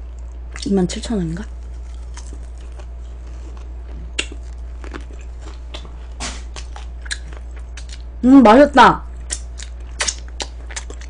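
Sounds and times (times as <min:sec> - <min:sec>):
person chewing crispy food: 0:00.0 - 0:00.8, 0:01.4 - 0:08.2, 0:09.1 - 0:11.0.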